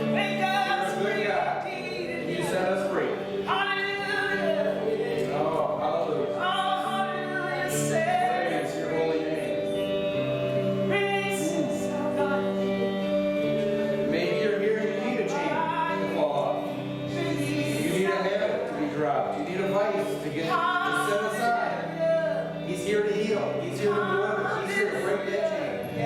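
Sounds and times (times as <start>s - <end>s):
voices singing worship music: 0.0s - 26.0s.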